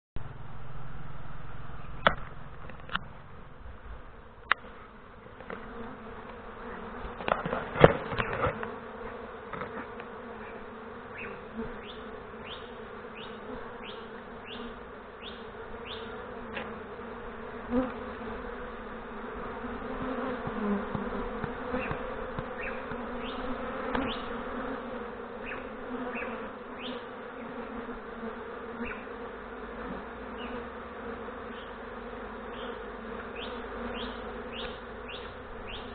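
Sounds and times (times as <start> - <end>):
bees buzzing drone: 0.2 - 35.9
single bee buzzing past: 2.0 - 35.9.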